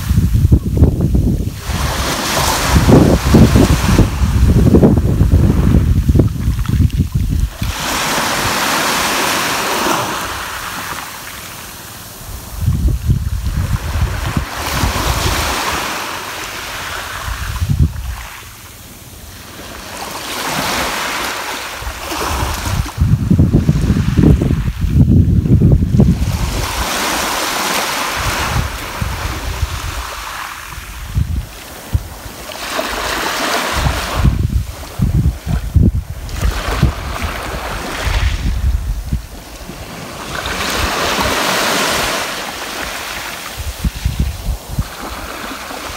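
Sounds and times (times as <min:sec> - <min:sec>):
wind buffeting microphone: 0:00.0 - 0:11.2, 0:11.9 - 0:18.6, 0:21.8 - 0:45.9
wave washing up shore: 0:00.0 - 0:45.9.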